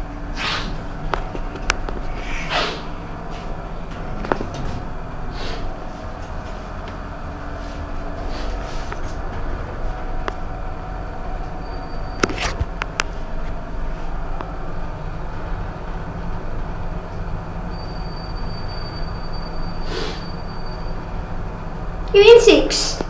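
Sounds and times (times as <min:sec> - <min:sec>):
high-pitched whine: 0:00.0 - 0:22.1
lift car rumble and hum: 0:00.0 - 0:23.0.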